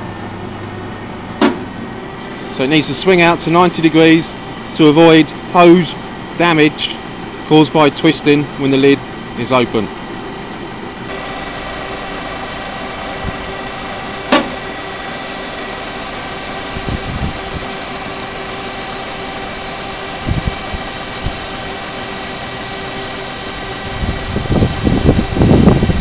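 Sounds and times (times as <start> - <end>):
excavator engine and hydraulics humming: 0.0 - 26.0.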